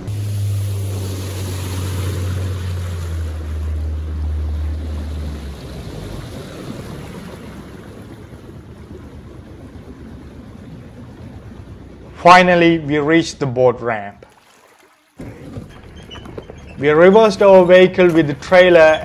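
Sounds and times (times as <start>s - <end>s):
boat motor droning: 0.0s - 19.0s
rushing water: 0.0s - 19.0s.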